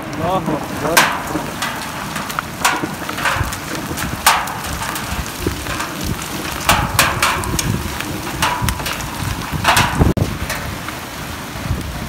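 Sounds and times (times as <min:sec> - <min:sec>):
hail striking: 0:00.0 - 0:12.0
heavy rain: 0:00.0 - 0:12.0.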